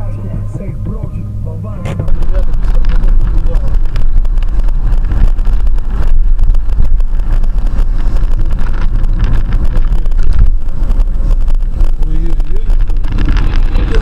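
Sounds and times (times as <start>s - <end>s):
vehicle rumble: 0.0s - 14.0s
wind buffeting microphone: 0.0s - 14.0s.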